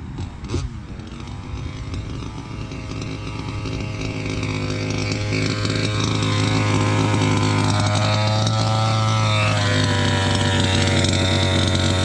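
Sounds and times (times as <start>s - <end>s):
small two-stroke engine running: 0.0s - 12.0s.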